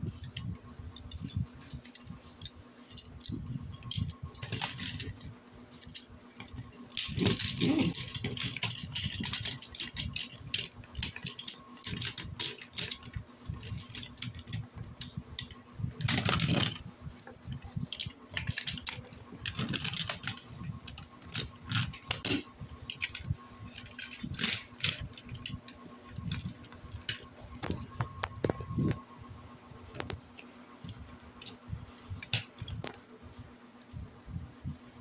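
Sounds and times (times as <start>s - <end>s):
plastic toy parts clicking: 0.0s - 29.0s.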